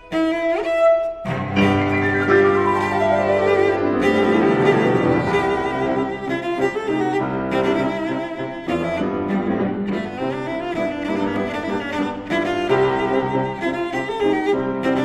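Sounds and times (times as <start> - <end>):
cello bowing with vibrato: 0.0 - 15.0
piano accompaniment: 0.0 - 15.0.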